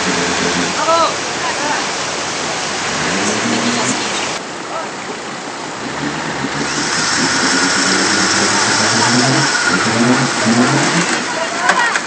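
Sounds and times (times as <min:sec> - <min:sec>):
rushing flood water: 0:00.0 - 0:12.0
suv engines running hard: 0:00.0 - 0:12.0
water churning off spinning wheels: 0:00.0 - 0:12.0.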